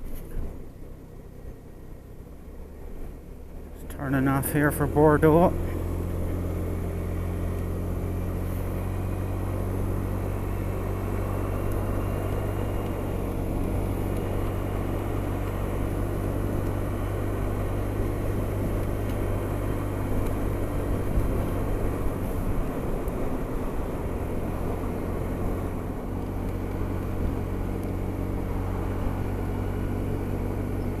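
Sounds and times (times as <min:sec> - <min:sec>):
road noise: 0:00.0 - 0:31.0
scooter engine running: 0:00.0 - 0:31.0.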